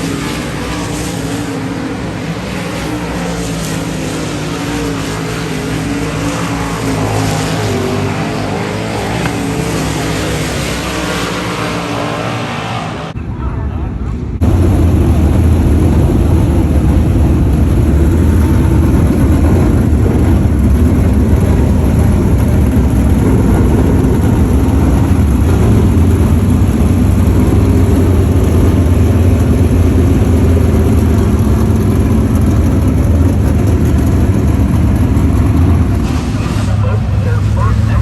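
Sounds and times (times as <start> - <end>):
race car engines running: 0.0 - 38.0.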